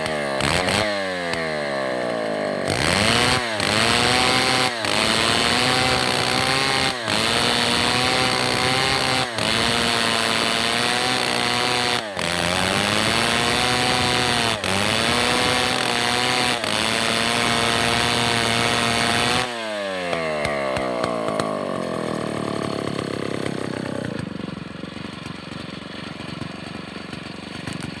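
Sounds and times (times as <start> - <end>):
chainsaw cutting at high revs: 0.0 - 28.0
chainsaw idling: 0.0 - 28.0.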